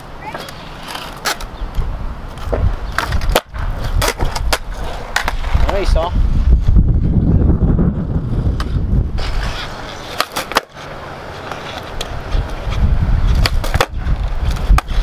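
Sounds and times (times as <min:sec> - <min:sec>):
skateboard popping and landing: 0:00.0 - 0:06.0, 0:08.4 - 0:15.0
skateboard wheels rolling on concrete: 0:00.0 - 0:15.0.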